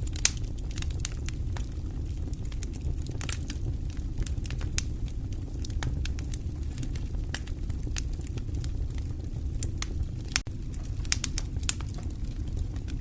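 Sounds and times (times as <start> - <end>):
fireplace fire crackling: 0.0 - 13.0.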